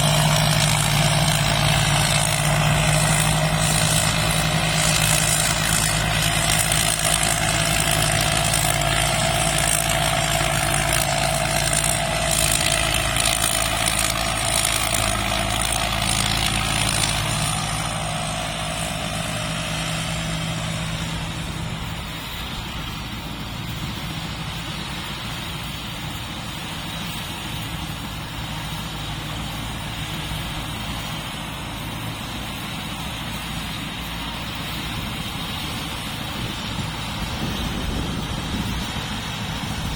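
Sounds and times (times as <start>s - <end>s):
harvester diesel engine running: 0.0s - 39.9s.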